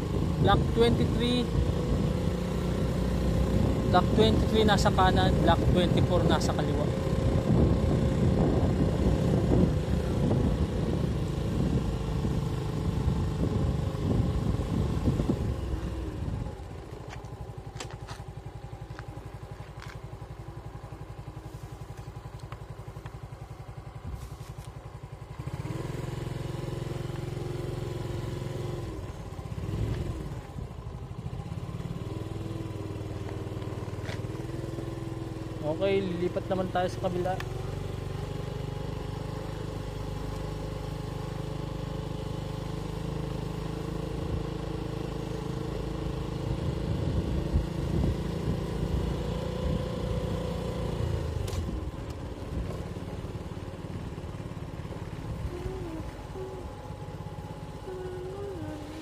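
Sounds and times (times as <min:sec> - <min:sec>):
small motorcycle engine: 0:00.0 - 0:59.0.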